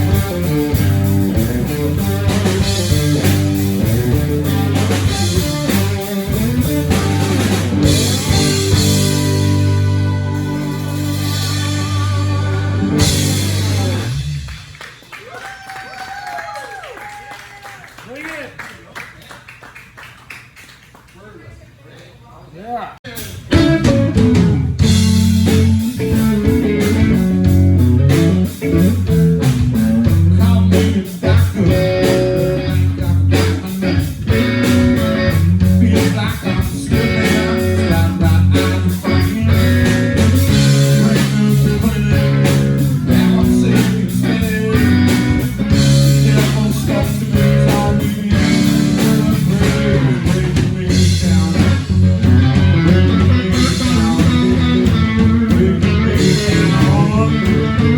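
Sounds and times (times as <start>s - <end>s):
steady drum beat: 0.0s - 14.8s, 23.1s - 57.9s
blues-rock band playing: 0.0s - 15.1s, 23.1s - 57.9s
guitar: 0.0s - 16.4s, 23.0s - 57.9s.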